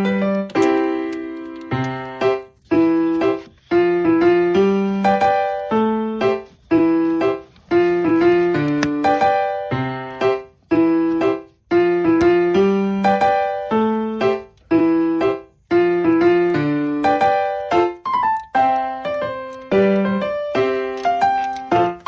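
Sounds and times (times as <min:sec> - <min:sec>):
background piano music: 0:00.0 - 0:22.0.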